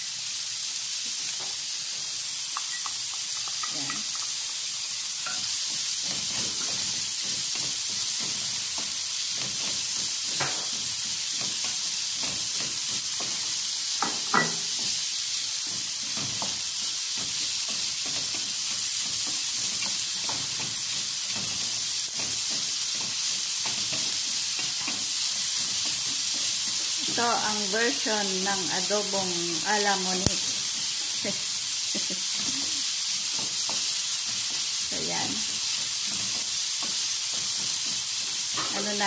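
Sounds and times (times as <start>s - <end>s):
onions sizzling in hot oil: 0.0s - 39.0s.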